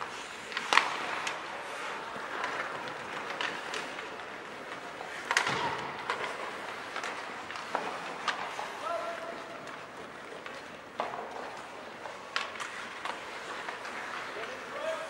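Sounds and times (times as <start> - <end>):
hockey sticks knocking puck: 0.0 - 15.0
skating and rink noise: 0.0 - 15.0.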